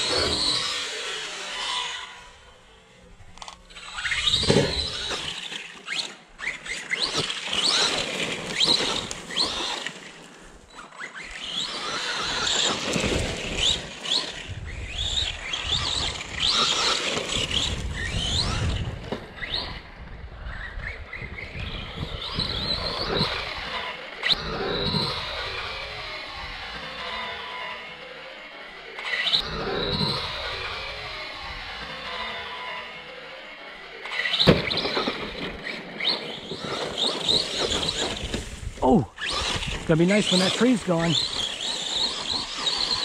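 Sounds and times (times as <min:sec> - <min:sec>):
rc truck motor whining: 0:00.0 - 0:43.0.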